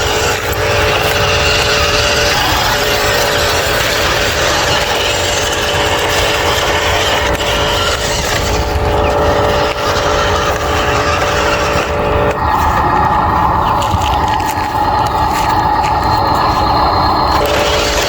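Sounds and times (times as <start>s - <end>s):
constant rushing noise: 0.0s - 18.0s
mechanical whine: 0.0s - 18.0s.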